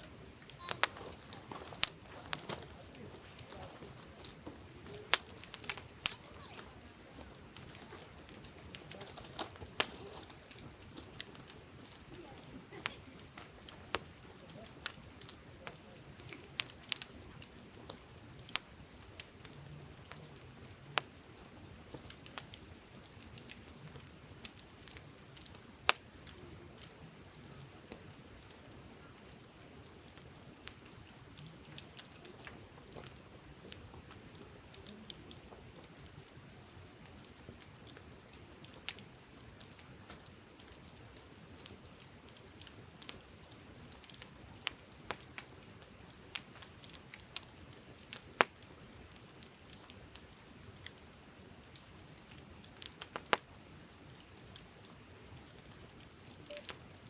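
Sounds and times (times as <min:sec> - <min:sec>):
campfire crackling and popping: 0:00.0 - 0:57.0
faint steady hiss: 0:00.0 - 0:57.0.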